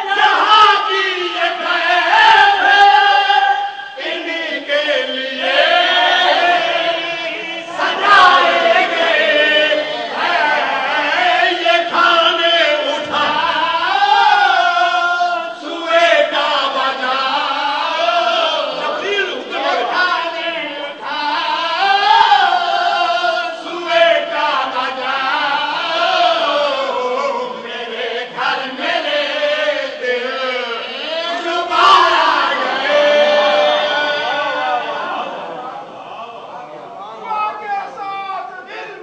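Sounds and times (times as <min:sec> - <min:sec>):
men chanting into a microphone: 0:00.0 - 0:39.0.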